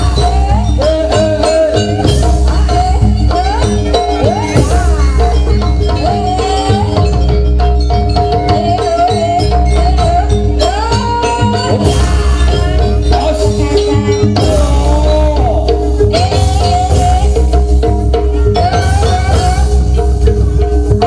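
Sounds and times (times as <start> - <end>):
drums: 0.0 - 21.0
high bending melody line: 0.0 - 21.0
metal-keyed percussion: 0.0 - 21.0.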